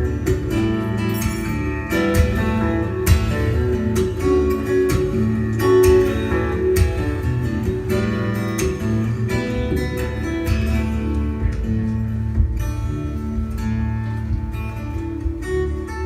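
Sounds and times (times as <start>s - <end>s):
guitar playing: 0.0s - 16.0s.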